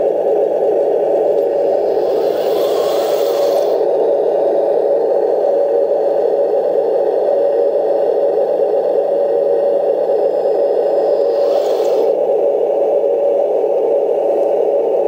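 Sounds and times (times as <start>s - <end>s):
electric motor drone: 0.0s - 14.8s.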